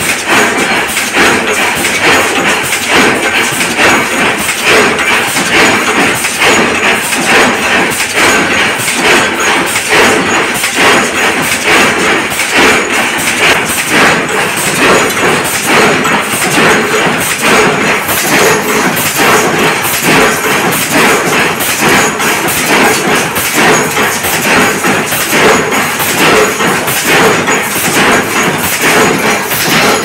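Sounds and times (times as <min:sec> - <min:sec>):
loud machine clatter: 0:00.0 - 0:30.0
stamping press impacts: 0:00.0 - 0:30.0.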